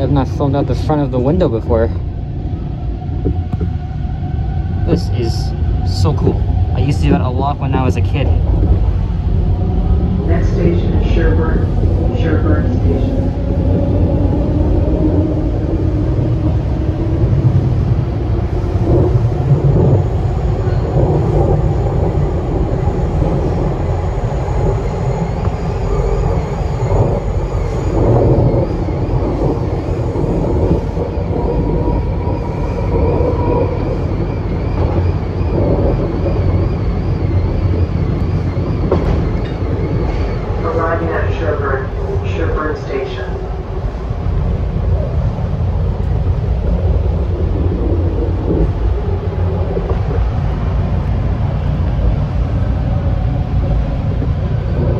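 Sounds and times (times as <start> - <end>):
rising whine: 0.0 - 54.9
train wheels rumbling on rails: 0.0 - 54.9.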